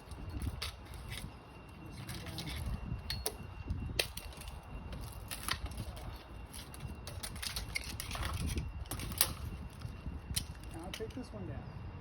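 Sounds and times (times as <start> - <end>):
dry branches cracking: 0.0 - 11.3.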